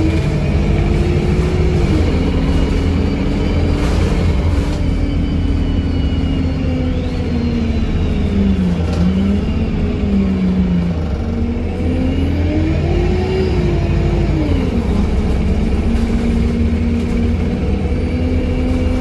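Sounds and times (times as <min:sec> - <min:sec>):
bus diesel engine: 0:00.0 - 0:19.0
road rumble: 0:00.0 - 0:19.0.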